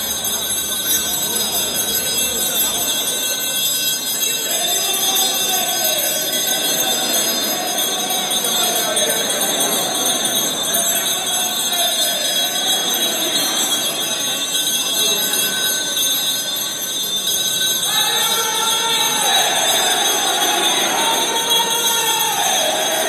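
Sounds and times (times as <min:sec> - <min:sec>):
bells ringing: 0:00.0 - 0:23.0
murmur of crowd: 0:00.0 - 0:23.0.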